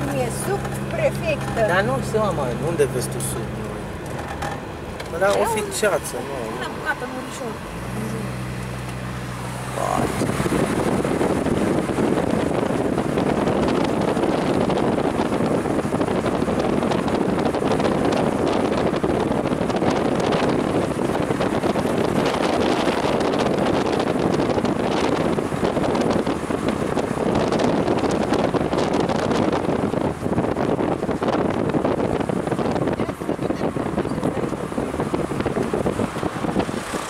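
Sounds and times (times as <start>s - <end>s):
wind buffeting microphone: 6.6s - 37.0s.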